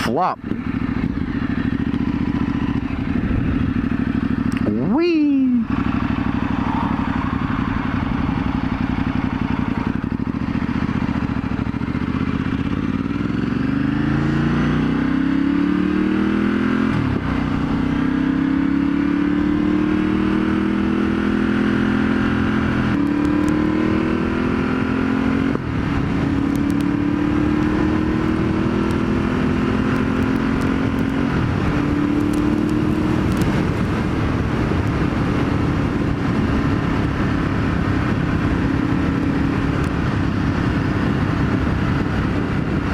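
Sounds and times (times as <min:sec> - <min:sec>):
motorcycle accelerating through gears: 0:00.4 - 0:42.9.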